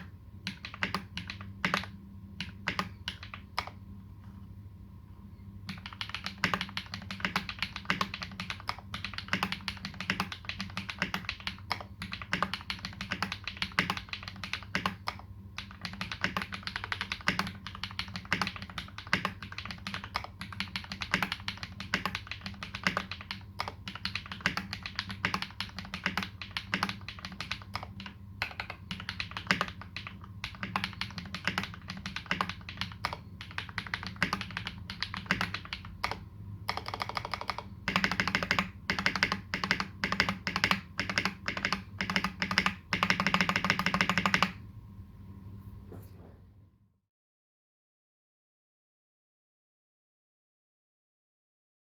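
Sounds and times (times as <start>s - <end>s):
mechanical keyboard typing: 0.0s - 3.8s, 5.7s - 44.6s.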